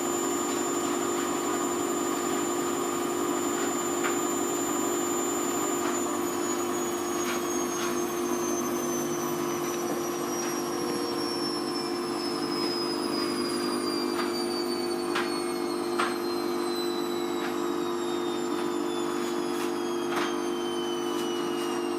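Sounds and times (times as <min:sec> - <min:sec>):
washing machine drum winding down: 0:00.0 - 0:21.9.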